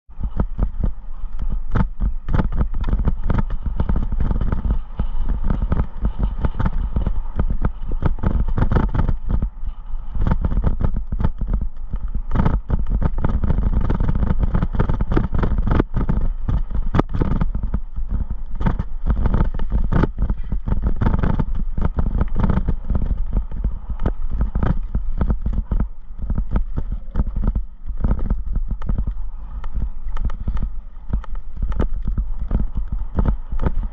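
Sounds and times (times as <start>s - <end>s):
wind rush on microphone: 0.0s - 33.9s
bike rattling and knocking: 0.2s - 33.9s.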